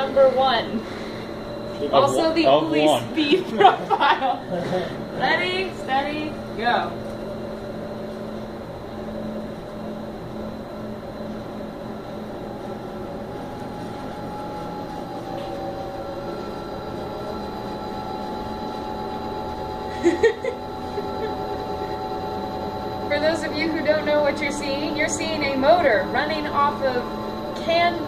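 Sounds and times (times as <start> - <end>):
electric motor whine: 0.0 - 28.0.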